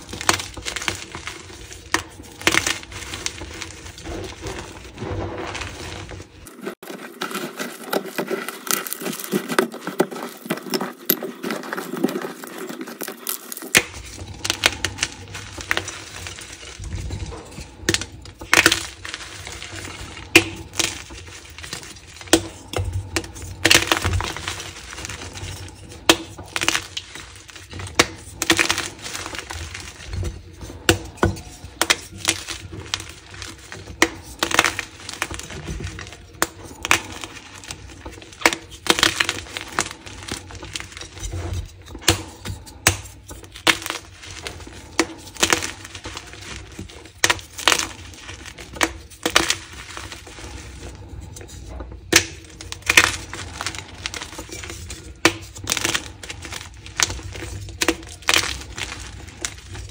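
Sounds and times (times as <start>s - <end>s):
chalk crunching: 0.0s - 59.9s.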